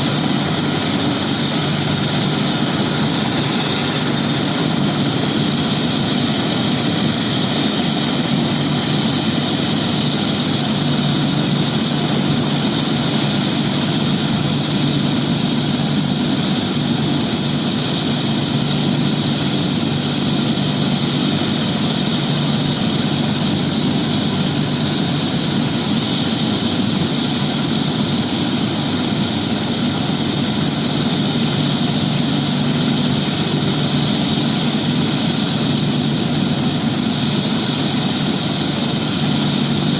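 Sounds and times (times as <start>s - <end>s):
helicopter rotor hum: 0.0s - 39.9s
helicopter turbine whining: 0.0s - 39.9s.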